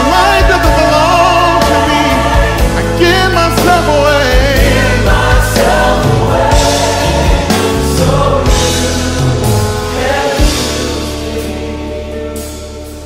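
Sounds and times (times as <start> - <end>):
choir singing gospel music: 0.0 - 13.0
steady bass line: 0.0 - 13.0.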